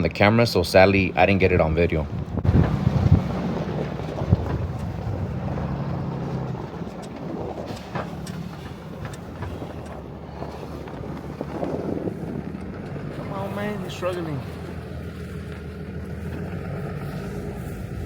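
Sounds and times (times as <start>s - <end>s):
truck engine humming: 0.0s - 18.0s
rumbling noise: 0.8s - 18.0s.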